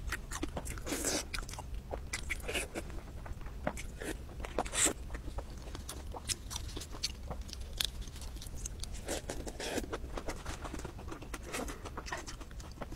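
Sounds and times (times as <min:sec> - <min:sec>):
chewing lettuce: 0:00.0 - 0:12.9.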